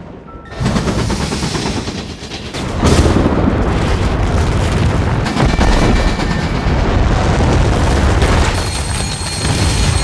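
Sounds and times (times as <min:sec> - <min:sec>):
avalanche rumble: 0:00.6 - 0:10.0.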